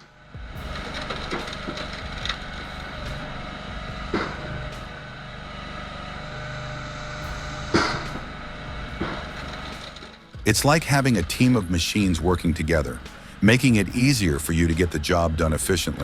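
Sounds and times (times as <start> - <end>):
wood splitter engine running: 0.0 - 16.0.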